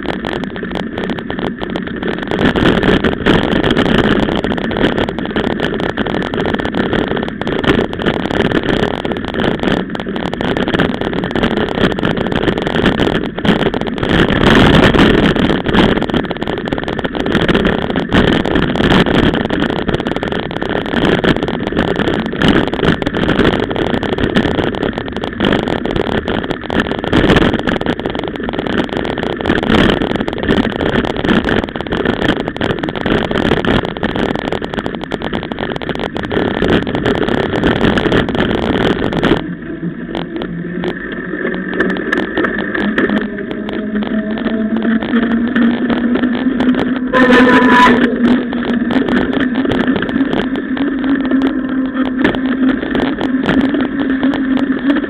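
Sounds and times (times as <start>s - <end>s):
bike tyres rumbling on dirt: 0.0s - 55.0s.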